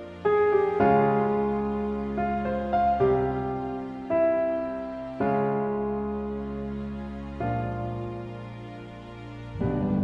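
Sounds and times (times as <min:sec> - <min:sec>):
slow keyboard music: 0:00.0 - 0:10.0.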